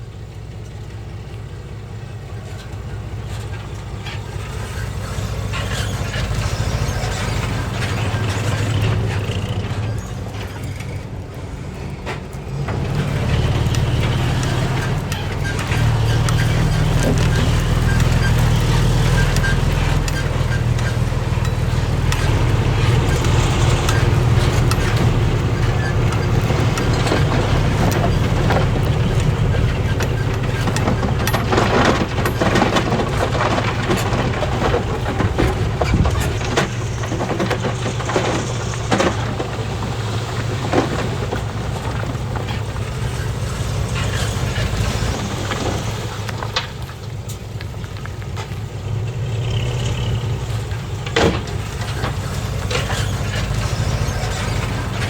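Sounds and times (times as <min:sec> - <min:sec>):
diesel engine running under load: 0:00.0 - 0:55.0
knocks and clanks: 0:02.4 - 0:55.0.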